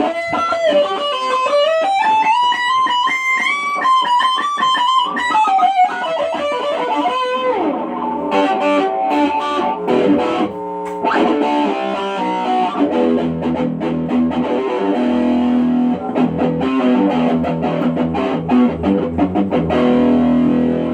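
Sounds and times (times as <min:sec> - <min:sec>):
electric guitar playing: 0:00.0 - 0:20.9.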